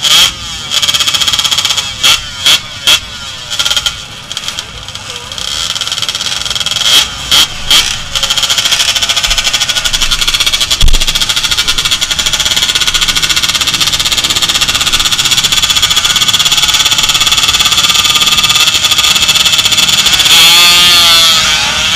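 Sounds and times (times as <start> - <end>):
engine running: 0.0 - 21.9.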